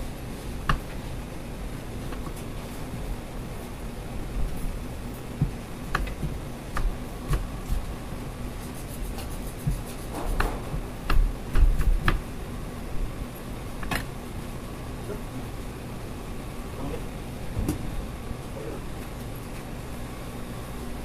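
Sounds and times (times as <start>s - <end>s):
fan hum: 0.0s - 21.0s.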